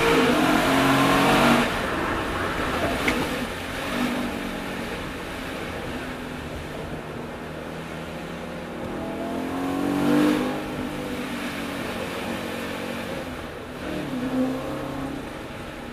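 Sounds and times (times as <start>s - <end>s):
car engine accelerating: 0.0s - 15.9s.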